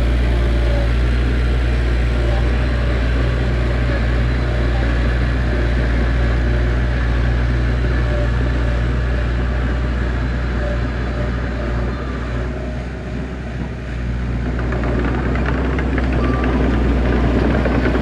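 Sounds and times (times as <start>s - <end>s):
heavy diesel engine rumbling: 0.0s - 18.0s.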